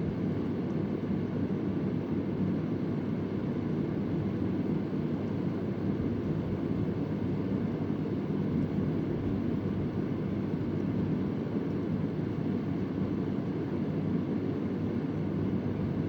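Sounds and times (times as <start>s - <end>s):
electric fan running: 0.0s - 16.0s.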